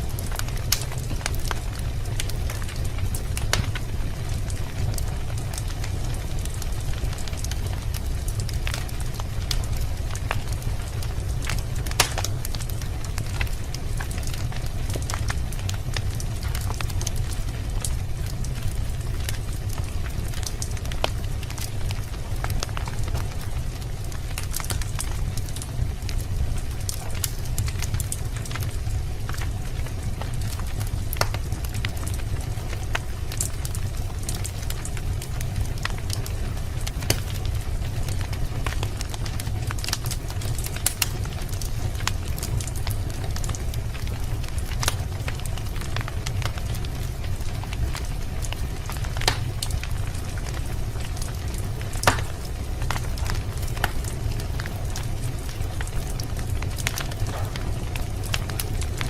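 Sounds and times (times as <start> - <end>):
fire popping: 0.0 - 59.0
wood fire crackling: 0.0 - 59.0.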